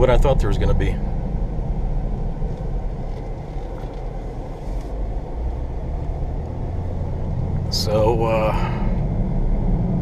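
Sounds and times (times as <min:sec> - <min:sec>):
road and drivetrain drone in car: 0:00.0 - 0:10.0.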